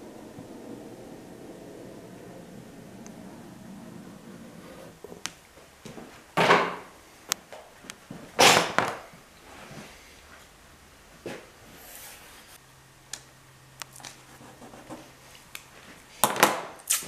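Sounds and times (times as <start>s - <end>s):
faint steady hum: 0.0s - 16.8s.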